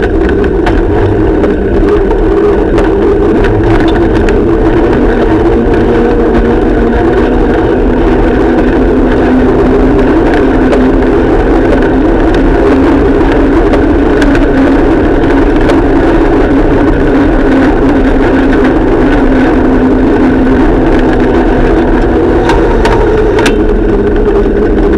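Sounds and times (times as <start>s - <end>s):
small clicks and rattles: 0.0s - 24.9s
vehicle mechanical drone: 0.0s - 24.9s.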